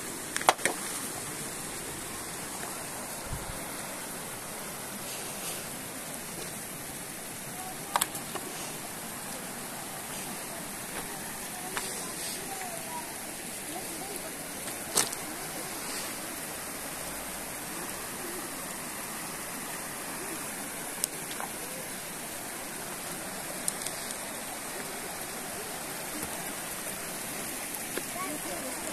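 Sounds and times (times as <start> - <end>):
river rushing over stones: 0.0 - 28.9.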